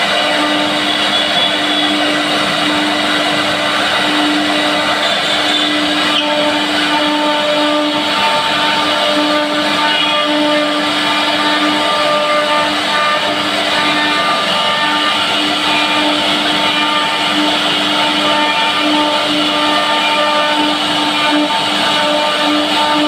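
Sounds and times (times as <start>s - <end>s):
cnc machine motor running: 0.0s - 23.0s.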